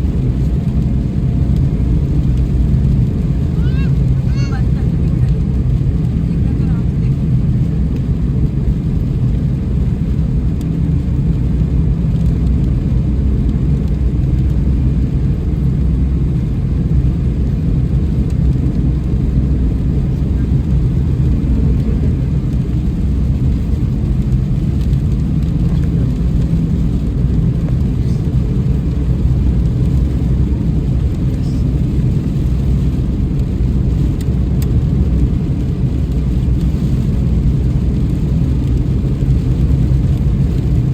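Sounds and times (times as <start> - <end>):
raindrops tapping: 0.0 - 40.9
road and engine rumble: 0.0 - 40.9.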